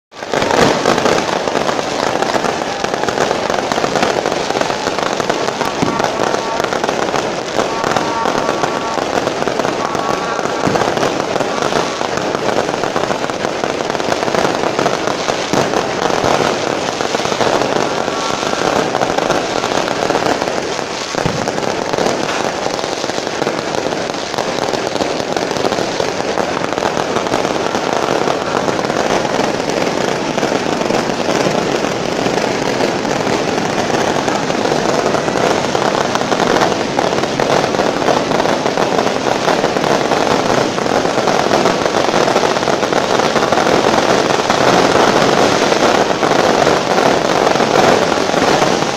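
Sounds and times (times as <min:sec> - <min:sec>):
fireworks crackling and banging: 0:00.1 - 0:48.9.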